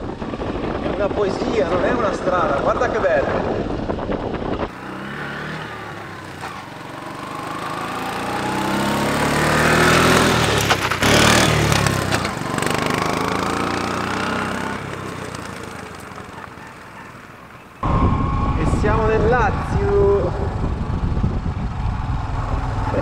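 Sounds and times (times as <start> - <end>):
scooter engine passing: 4.5 - 23.0.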